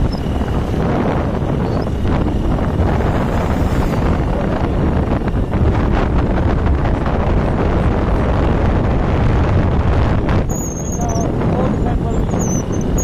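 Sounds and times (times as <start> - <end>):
motorcycle engine: 0.0 - 13.0
road noise: 0.0 - 13.0
wind buffeting microphone: 0.0 - 13.0.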